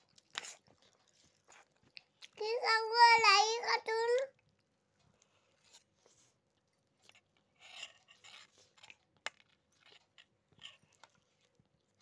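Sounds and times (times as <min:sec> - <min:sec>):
chewing: 0:00.0 - 0:02.4, 0:04.2 - 0:12.0.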